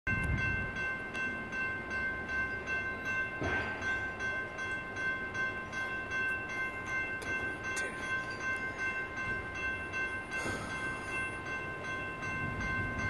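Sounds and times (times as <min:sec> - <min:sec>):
electronic crossing bell ringing: 0:00.1 - 0:13.0.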